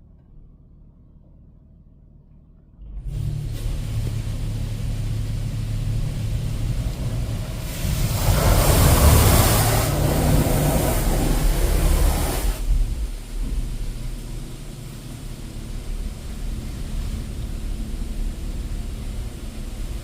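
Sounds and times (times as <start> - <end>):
car wash machinery rumble: 2.5 - 20.0
water spray hissing on car: 3.1 - 20.0.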